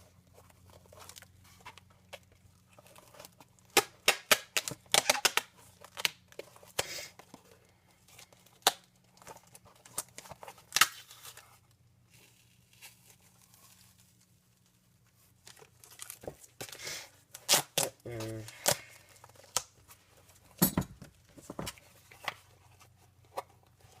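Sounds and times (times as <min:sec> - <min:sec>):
duct tape crinkling and tearing: 0:00.3 - 0:20.1.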